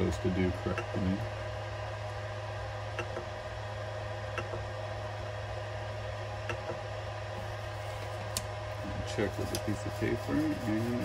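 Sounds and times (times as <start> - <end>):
printer cooling fans humming: 0.0 - 11.0.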